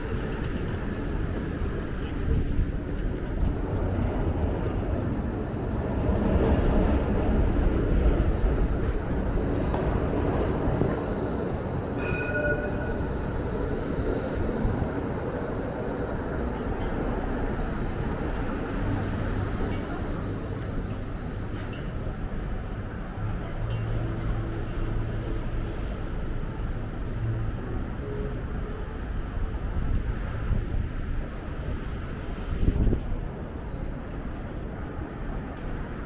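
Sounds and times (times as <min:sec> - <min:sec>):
tram rumbling on rails: 0:00.0 - 0:36.0.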